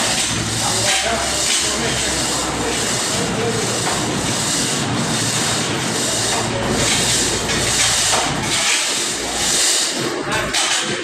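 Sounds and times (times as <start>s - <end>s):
hydraulic press machine running: 0.0s - 11.0s.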